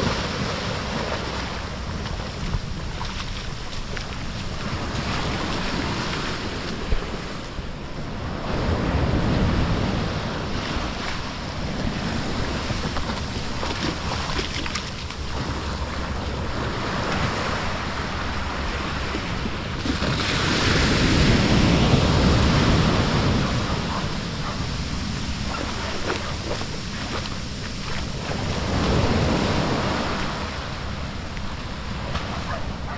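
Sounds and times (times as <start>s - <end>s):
small waves washing on sand: 0.0s - 32.9s.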